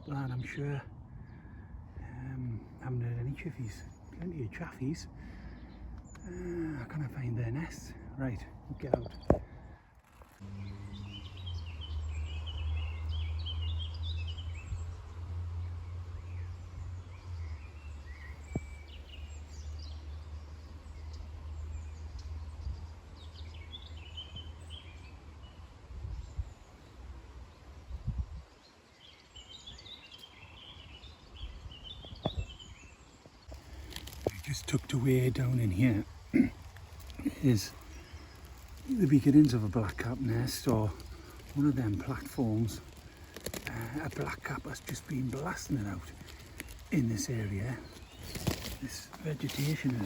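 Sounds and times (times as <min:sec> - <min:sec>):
small songbirds singing: 0:00.0 - 0:50.0.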